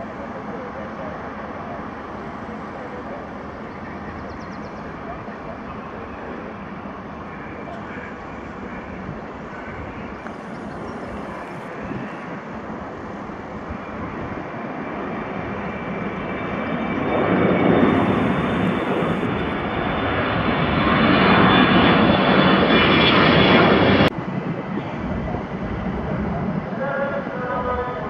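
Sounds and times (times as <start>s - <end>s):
jet airliner roaring overhead: 0.0s - 28.0s.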